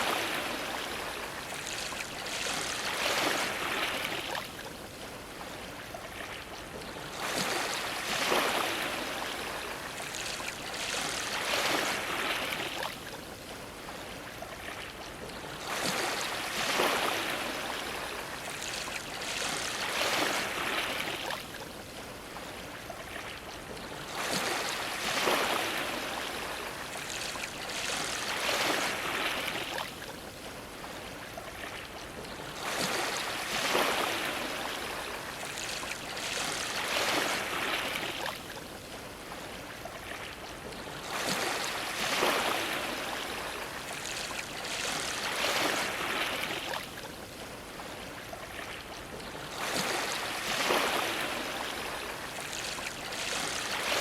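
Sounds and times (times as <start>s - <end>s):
small waves splashing against dock: 0.0s - 54.0s
water trickling and sloshing: 0.0s - 54.0s.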